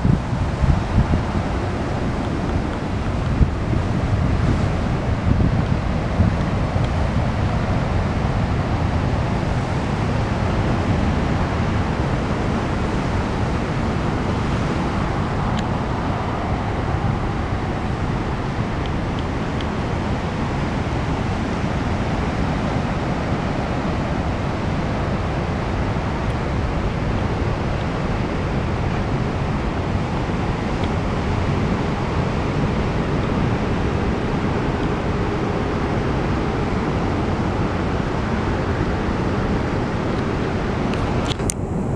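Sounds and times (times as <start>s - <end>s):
ocean surf rushing: 0.0s - 41.9s.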